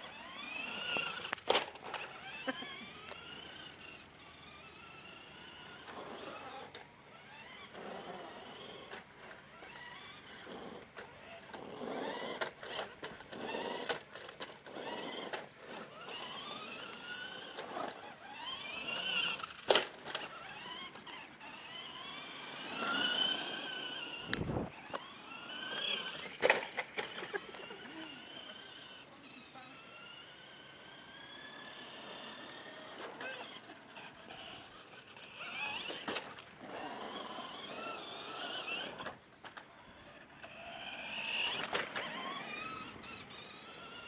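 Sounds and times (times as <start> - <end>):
electric motor and gearbox whining: 0.0 - 44.0.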